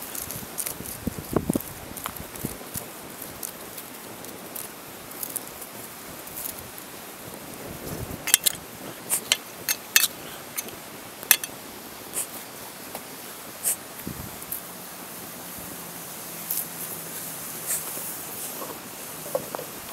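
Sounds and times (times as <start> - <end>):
wood fire crackling and popping: 0.0 - 19.9.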